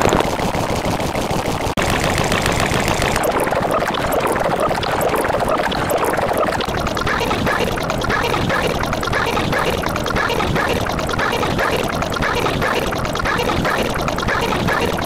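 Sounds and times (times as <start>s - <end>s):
layered soundtracks noise: 0.0s - 15.0s.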